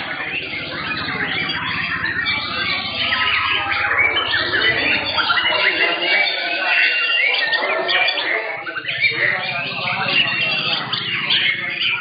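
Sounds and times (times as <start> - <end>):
birds singing whistles and chatter: 0.0 - 12.0.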